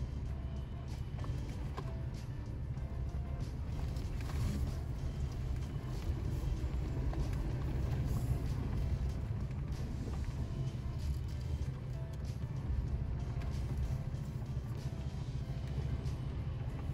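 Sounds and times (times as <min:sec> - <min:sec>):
truck engine and tyres rumbling: 0:00.0 - 0:16.9.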